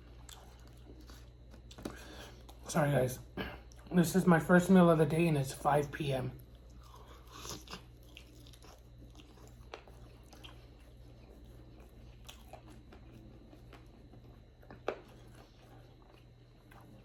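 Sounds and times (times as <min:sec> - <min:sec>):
person chewing food: 0:00.0 - 0:02.7, 0:03.3 - 0:04.0, 0:06.4 - 0:17.0.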